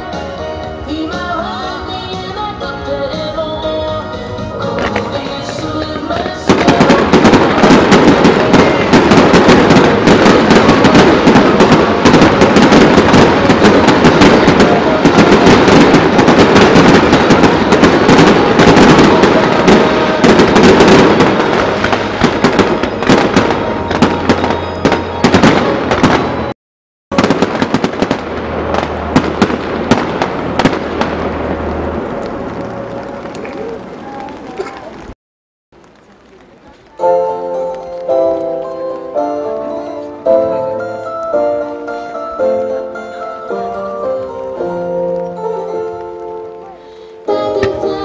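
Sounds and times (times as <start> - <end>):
fireworks bangs and crackling: 2.2 - 26.5, 27.1 - 35.1, 35.8 - 48.0.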